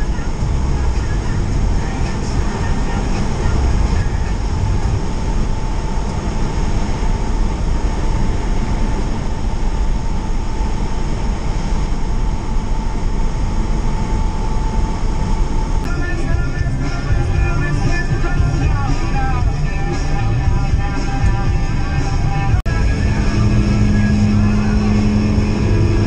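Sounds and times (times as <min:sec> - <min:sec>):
car tyre and engine rumble: 0:00.0 - 0:26.0
faint steady whine: 0:00.0 - 0:26.0.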